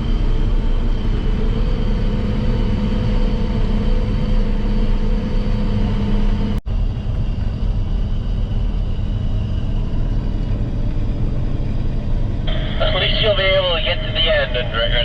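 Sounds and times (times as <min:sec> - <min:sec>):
heavy farm vehicle engine running: 0:00.0 - 0:15.0.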